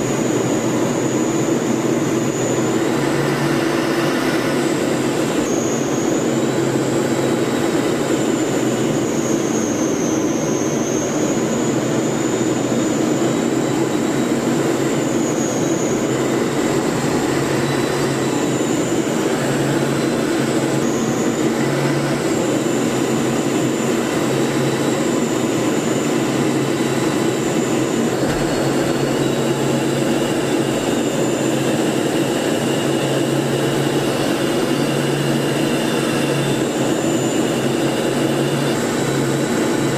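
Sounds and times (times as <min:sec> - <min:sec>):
aircraft engine drone: 0:00.0 - 0:39.9
faint high whine: 0:00.0 - 0:39.9.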